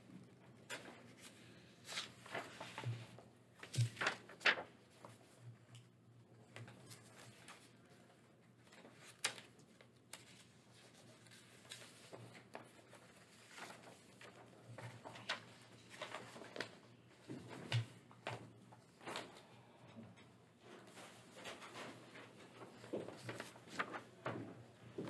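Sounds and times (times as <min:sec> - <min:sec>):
paper rustling: 0:00.4 - 0:19.6, 0:20.6 - 0:25.0.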